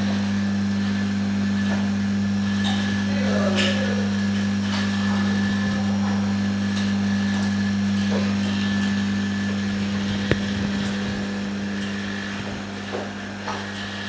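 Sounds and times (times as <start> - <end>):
laminating machine humming: 0.0 - 14.0.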